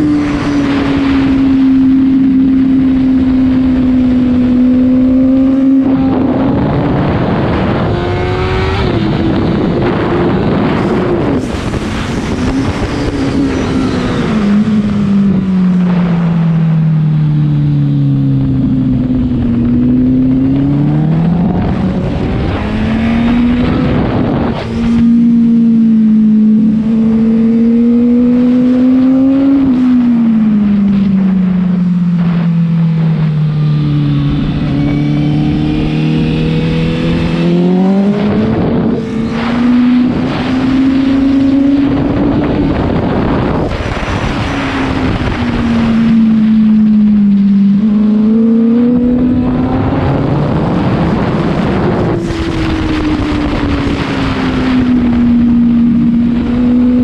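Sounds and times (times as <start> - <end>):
heavy wind rush: 0.0 - 57.0
motorcycle engine revving: 0.0 - 57.0.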